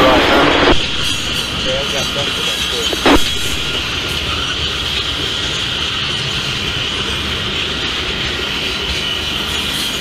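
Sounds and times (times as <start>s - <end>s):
steady high hiss: 0.0s - 10.0s
train wheels rumbling on rails: 0.0s - 10.0s.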